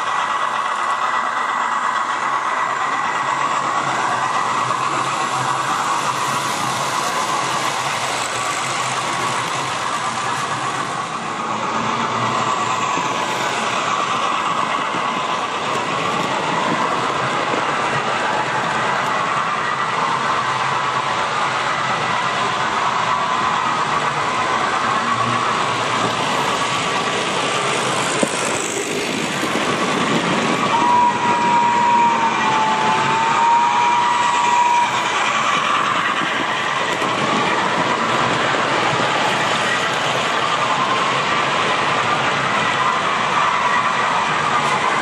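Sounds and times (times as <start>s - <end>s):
model train running on track: 0.0s - 45.0s.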